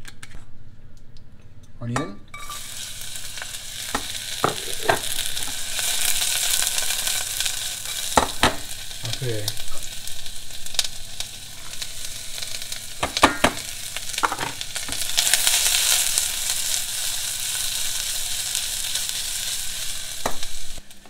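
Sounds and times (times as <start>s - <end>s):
onion sizzling in a saucepan: 2.3s - 21.0s.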